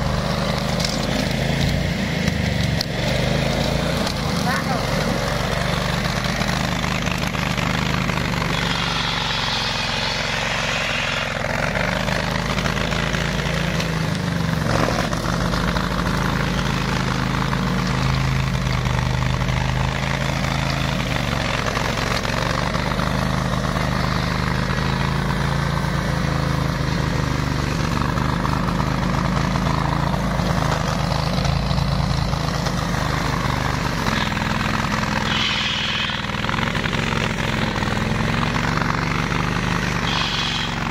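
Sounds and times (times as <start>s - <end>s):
mower engine running: 0.0s - 40.9s.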